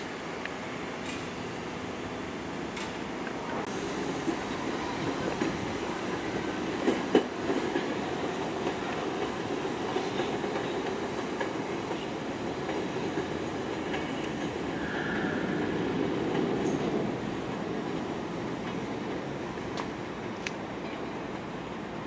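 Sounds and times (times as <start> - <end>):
train wheels rumbling and clicking: 0.4 - 1.4, 2.7 - 21.6.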